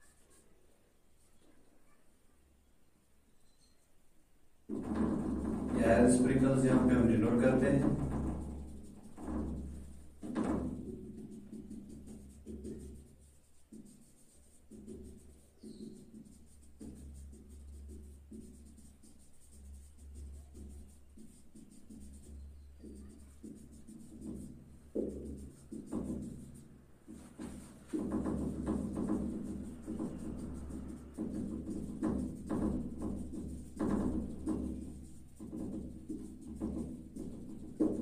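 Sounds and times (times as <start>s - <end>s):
marker drawing on whiteboard: 4.7s - 38.0s.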